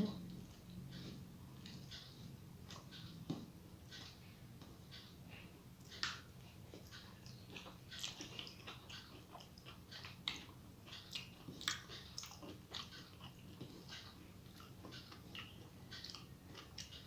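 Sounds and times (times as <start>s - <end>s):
person chewing food: 0.3s - 17.0s.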